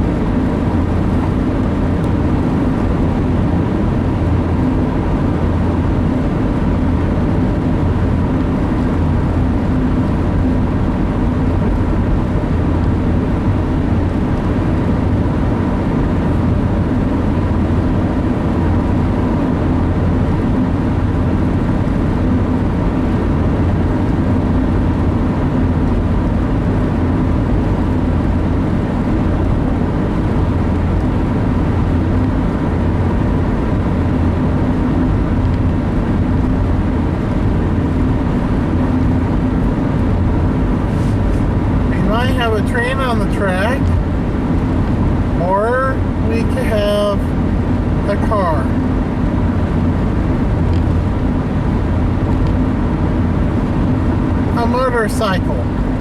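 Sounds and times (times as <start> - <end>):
car engine and tyre drone: 0.0 - 56.0
low hum: 0.0 - 56.0.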